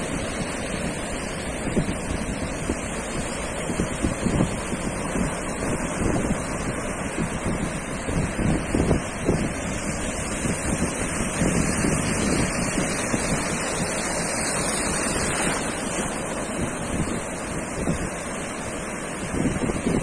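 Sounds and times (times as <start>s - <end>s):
sea surf washing onto sand: 0.0s - 20.0s
wind buffeting microphone: 0.0s - 20.0s.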